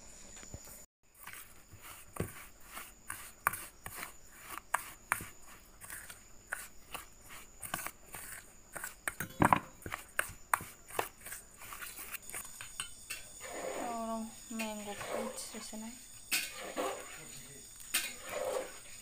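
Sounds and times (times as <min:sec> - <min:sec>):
metal spoon scraping steel bowl: 0:01.2 - 0:19.0.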